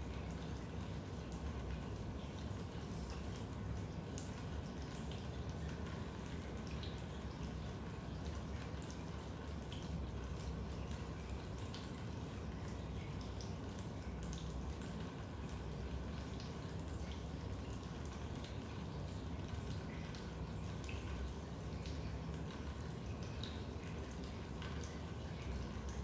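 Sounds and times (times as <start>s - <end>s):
water drips plinking: 0.0s - 26.0s.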